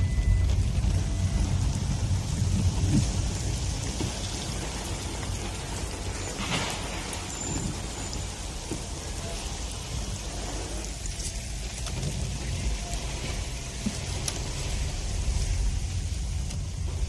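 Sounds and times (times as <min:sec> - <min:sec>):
car interior rumble: 0:00.0 - 0:17.0
rain and tyres on wet road: 0:00.0 - 0:17.0.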